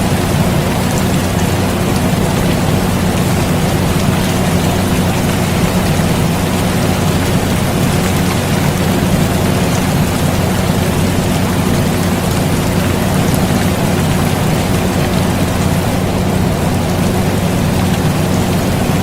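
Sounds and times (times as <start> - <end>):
air conditioner humming: 0.0 - 19.0
steady rain: 0.0 - 19.0.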